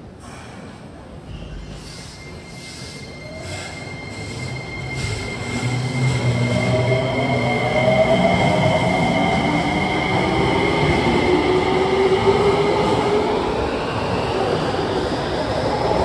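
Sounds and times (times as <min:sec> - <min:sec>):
train wheel and running noise: 0:00.2 - 0:16.0.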